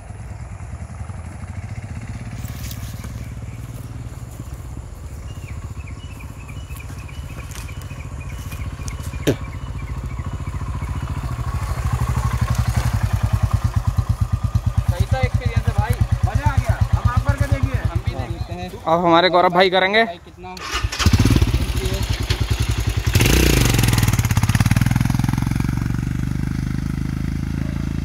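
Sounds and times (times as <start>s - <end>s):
motorcycle engine at low revs: 0.0s - 19.0s, 20.6s - 28.0s.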